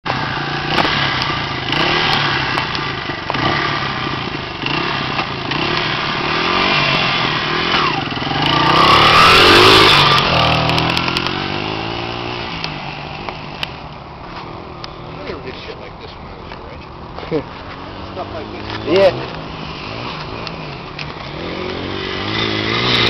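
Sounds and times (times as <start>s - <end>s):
dirt bike engine revving: 0.1s - 13.7s, 17.7s - 23.0s.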